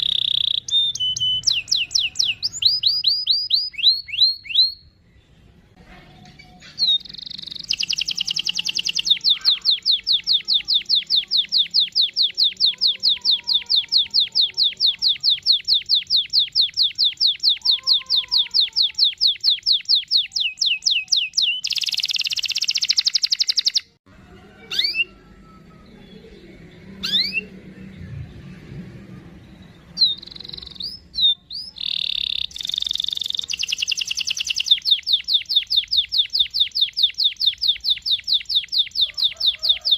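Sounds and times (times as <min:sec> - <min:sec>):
canary trilling: 0:00.0 - 0:05.0, 0:06.5 - 0:27.7, 0:29.4 - 0:39.9
canary chirps: 0:00.0 - 0:05.6, 0:06.2 - 0:24.0, 0:24.7 - 0:28.2, 0:29.2 - 0:39.9.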